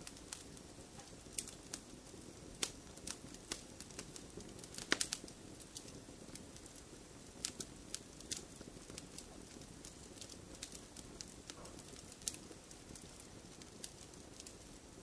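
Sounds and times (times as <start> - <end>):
campfire crackling and popping: 0.0 - 15.0
fire low hiss: 0.0 - 15.0.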